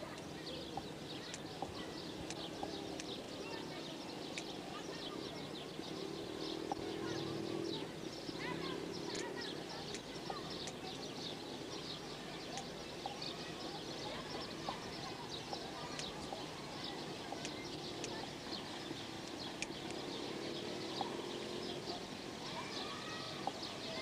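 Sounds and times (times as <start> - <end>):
murmur of distant voices: 0.0 - 24.0
small birds chirping: 0.0 - 24.0.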